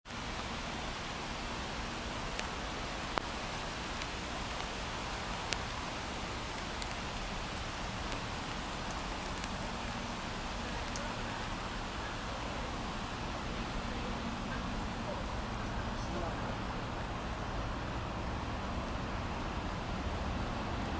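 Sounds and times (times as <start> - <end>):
steady rain hiss: 0.1 - 20.9.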